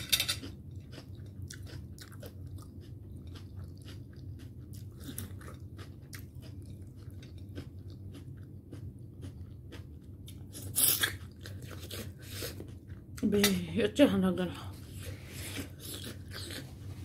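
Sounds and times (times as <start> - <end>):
person chewing food: 0.2 - 13.2, 14.8 - 17.0.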